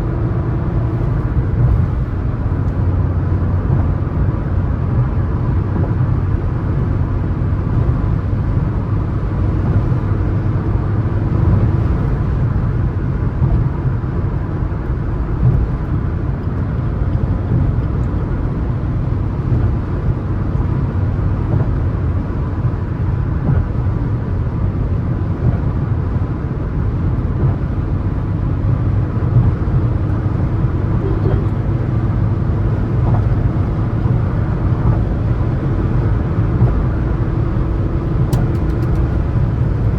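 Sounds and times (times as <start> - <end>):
car engine drone: 0.0 - 39.9
road and tyre noise: 0.0 - 39.9.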